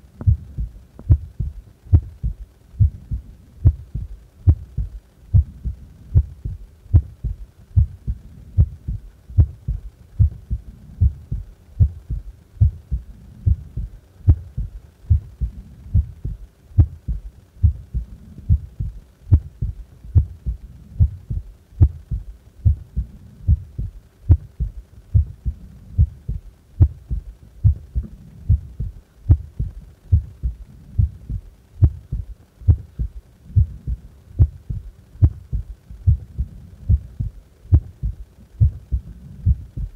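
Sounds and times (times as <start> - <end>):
heart beating: 0.2 - 39.9.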